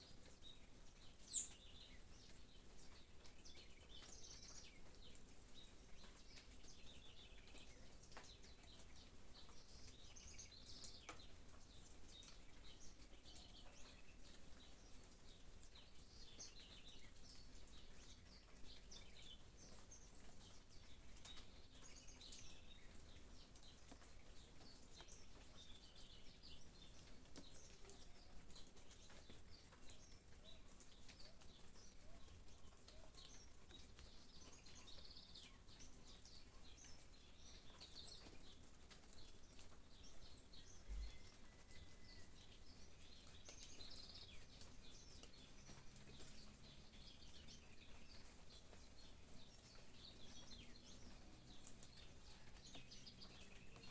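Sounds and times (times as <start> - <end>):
faint rain patter: 0.0 - 53.9
small birds twittering: 0.0 - 53.9.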